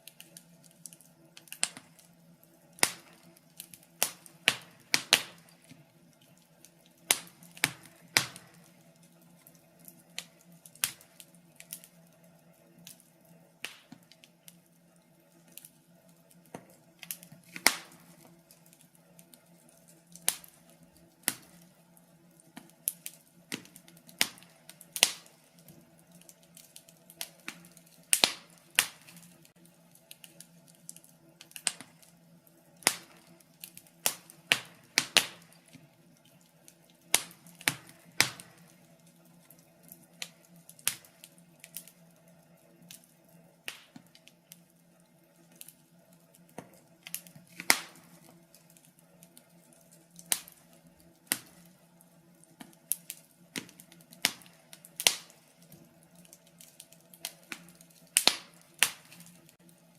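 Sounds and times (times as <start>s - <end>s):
faint steady low hum: 0.0s - 59.9s
wood fire crackling: 0.0s - 59.9s.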